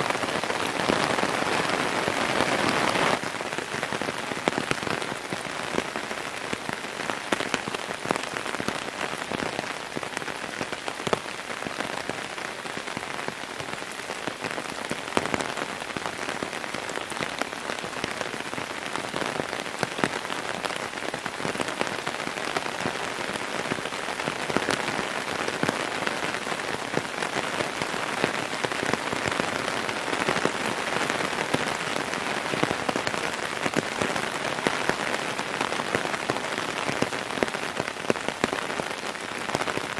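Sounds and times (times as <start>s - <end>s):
heavy rain on wooden deck: 0.0s - 39.9s.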